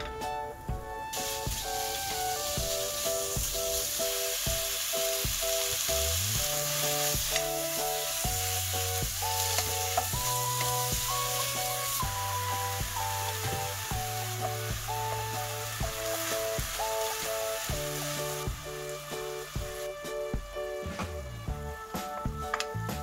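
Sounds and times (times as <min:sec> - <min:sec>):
food sizzling in a hot pan: 0:01.1 - 0:21.0.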